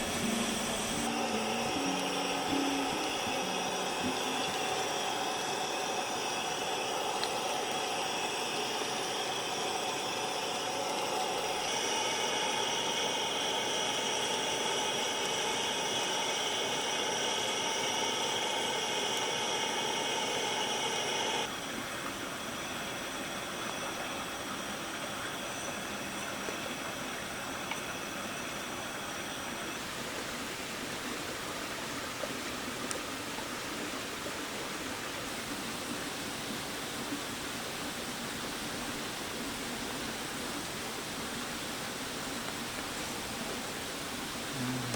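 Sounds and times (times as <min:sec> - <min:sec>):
loud hiss with steady tones: 0:00.0 - 0:44.9
rain and wind in forest: 0:00.0 - 0:44.9.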